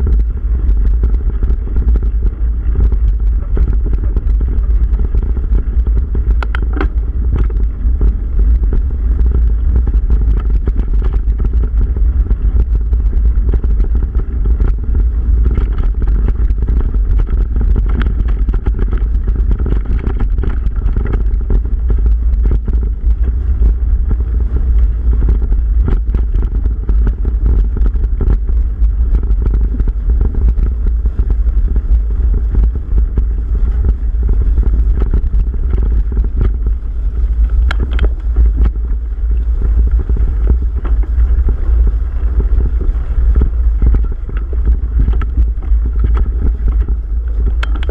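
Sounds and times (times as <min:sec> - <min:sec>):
bike clicks and rattles: 0:00.0 - 0:47.9
tyres rolling over dry leaves: 0:00.0 - 0:47.9
wind rumble on microphone: 0:00.0 - 0:47.9.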